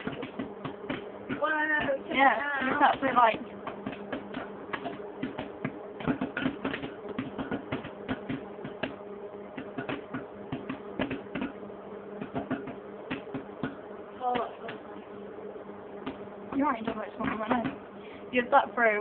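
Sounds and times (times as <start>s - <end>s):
popcorn popping: 0.0s - 15.0s, 16.0s - 18.0s
microwave oven humming: 0.0s - 19.0s.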